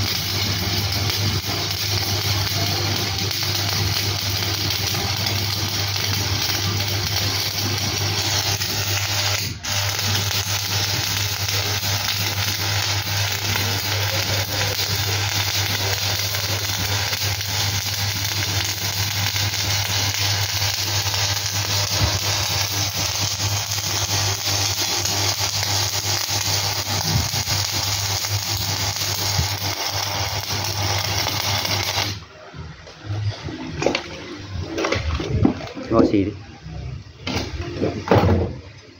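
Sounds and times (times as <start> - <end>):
welding arc crackling: 0.0 - 32.3.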